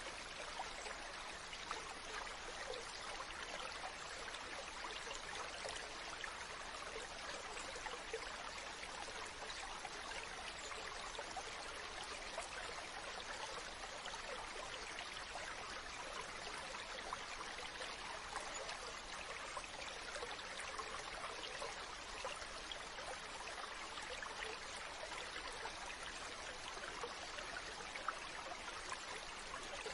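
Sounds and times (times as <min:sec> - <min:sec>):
stream water running: 0:00.0 - 0:29.9.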